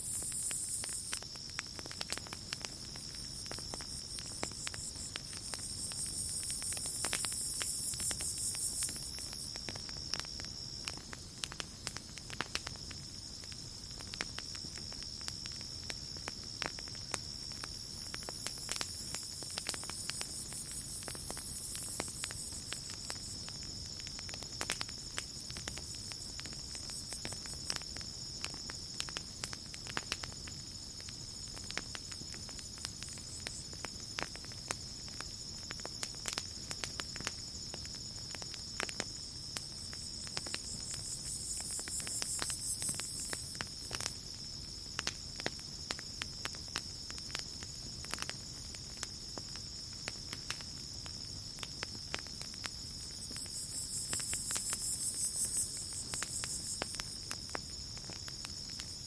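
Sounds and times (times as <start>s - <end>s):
insects trilling: 0.0s - 59.0s
campfire crackling and popping: 0.1s - 59.0s.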